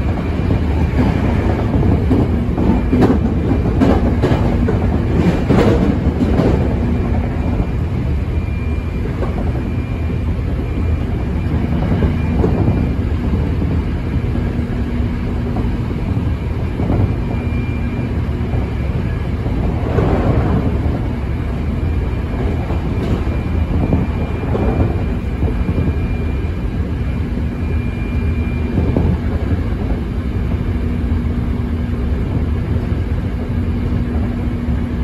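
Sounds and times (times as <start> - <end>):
track clacks: 0.0 - 35.0
train wheels rumbling on rail: 0.0 - 35.0.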